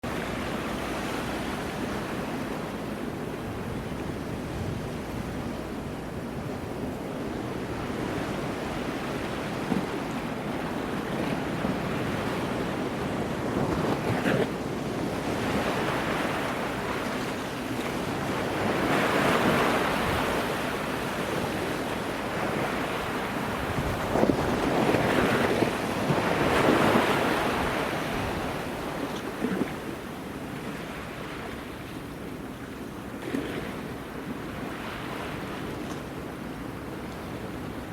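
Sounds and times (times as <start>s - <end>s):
wind on microphone: 0.0s - 31.6s.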